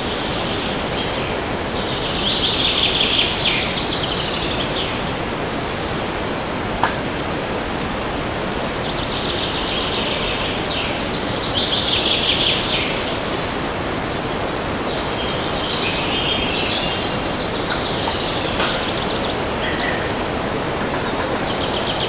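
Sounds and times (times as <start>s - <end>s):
songbirds singing: 0.0s - 22.0s
wind through forest trees: 0.0s - 22.0s.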